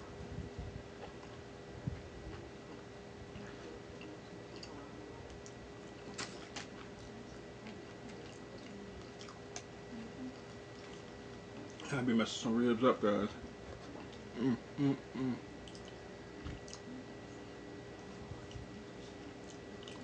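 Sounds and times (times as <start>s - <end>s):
steady low hum: 0.0s - 20.0s
quiet chewing: 1.0s - 12.0s, 13.6s - 20.0s.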